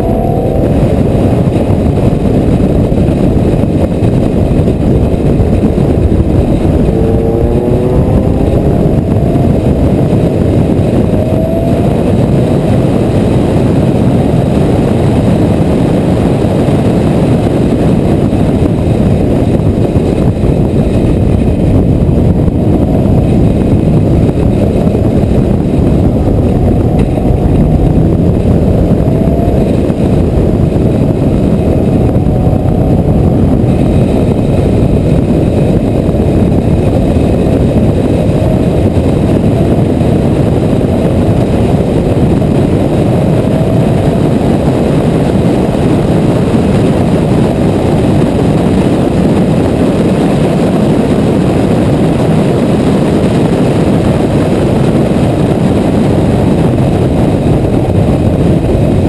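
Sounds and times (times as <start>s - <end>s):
car engine accelerating: 0.0s - 48.2s
wind and road noise: 0.0s - 59.0s.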